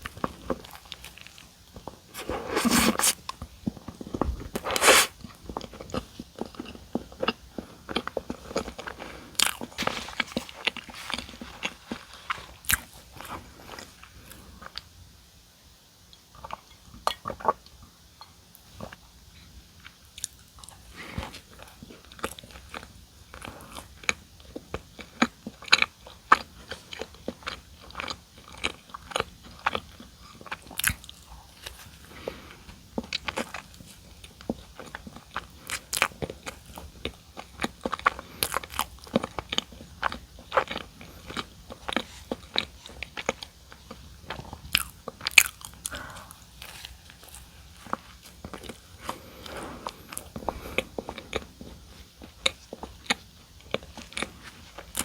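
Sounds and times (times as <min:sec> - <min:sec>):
person chewing crunchy food: 0:00.0 - 0:15.0, 0:16.0 - 0:55.0.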